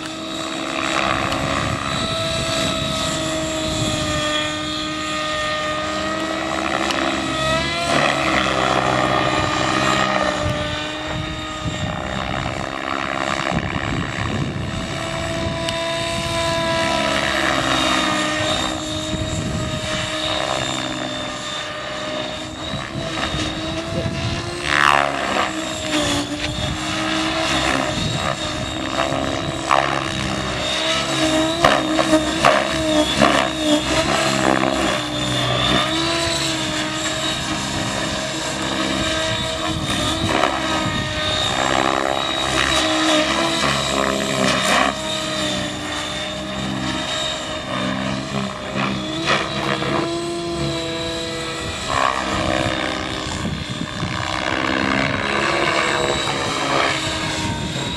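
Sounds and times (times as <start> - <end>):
model helicopter motor whine: 0.0 - 57.9
rotor blade noise: 0.0 - 57.9.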